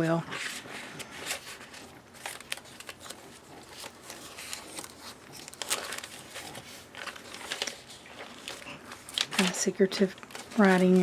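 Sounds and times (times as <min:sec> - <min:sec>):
paper pages rustling and crinkling: 0:00.0 - 0:11.0.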